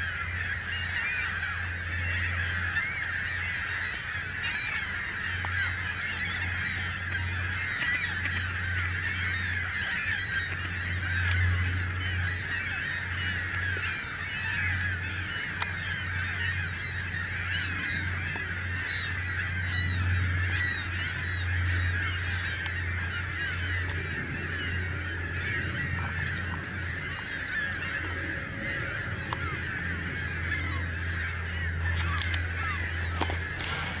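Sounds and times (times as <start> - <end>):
low steady hum: 0.0 - 34.0
swans honking: 0.0 - 34.0.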